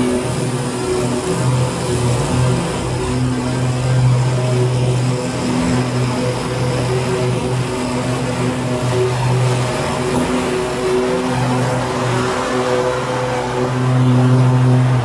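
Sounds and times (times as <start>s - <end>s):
mower engine running: 0.0s - 15.0s.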